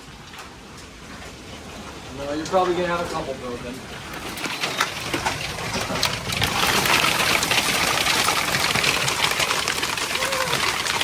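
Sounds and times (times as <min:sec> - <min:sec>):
hail clattering: 0:01.7 - 0:11.0.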